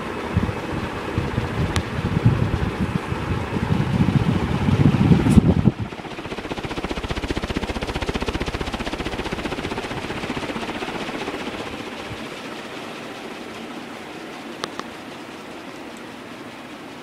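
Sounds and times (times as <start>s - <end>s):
ceiling fan blades whooshing: 0.0s - 17.0s.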